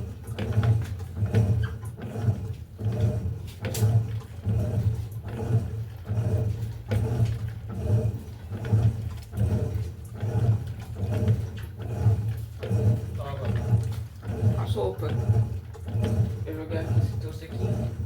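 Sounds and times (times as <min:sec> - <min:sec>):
washing machine agitating: 0:00.0 - 0:18.0.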